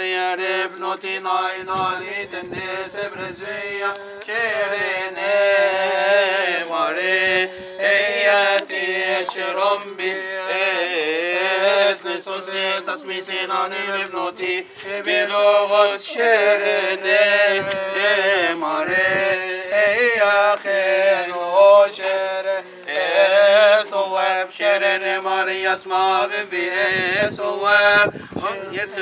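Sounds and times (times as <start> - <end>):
man chanting a hymn: 0.0 - 29.0.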